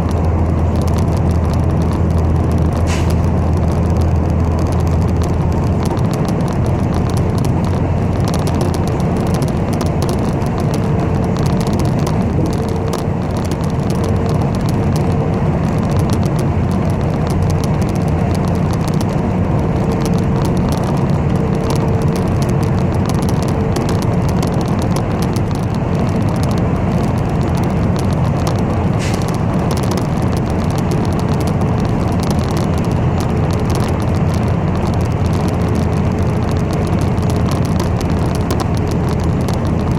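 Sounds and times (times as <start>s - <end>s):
bus engine and road noise: 0.0s - 39.9s.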